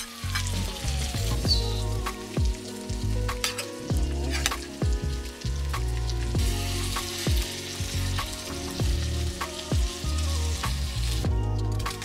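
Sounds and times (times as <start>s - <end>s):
steady sizzling crackle: 0.0s - 12.0s
music with deep kick drums: 0.4s - 12.0s.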